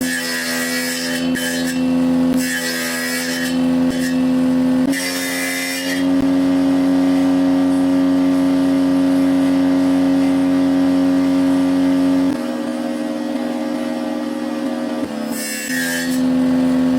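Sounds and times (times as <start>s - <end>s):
electric power tool running: 0.0s - 16.9s
hissing cutting of wood: 0.0s - 16.9s.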